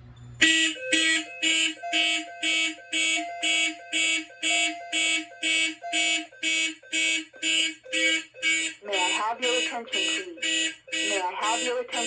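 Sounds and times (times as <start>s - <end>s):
fire alarm high-pitched pulses: 0.4s - 12.0s.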